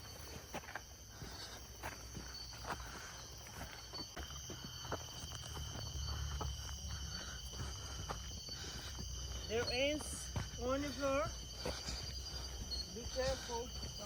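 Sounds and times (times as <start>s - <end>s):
footsteps crunching on trail: 0.0s - 14.0s
night insects chirping: 0.0s - 14.0s.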